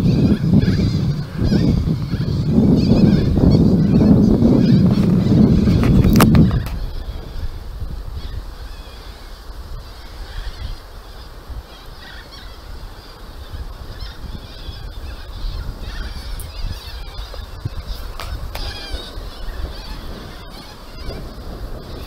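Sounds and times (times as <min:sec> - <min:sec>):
parrots screeching and chattering: 0:00.0 - 0:07.5, 0:08.2 - 0:22.0
wind rumble on microphone: 0:00.0 - 0:22.0.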